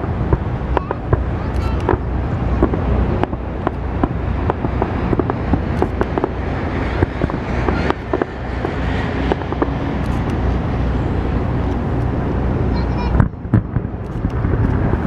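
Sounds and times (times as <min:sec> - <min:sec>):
fireworks popping and crackling: 0:00.0 - 0:10.6, 0:13.0 - 0:15.0
low rumble: 0:00.0 - 0:15.0
wind buffeting microphone: 0:00.0 - 0:15.0.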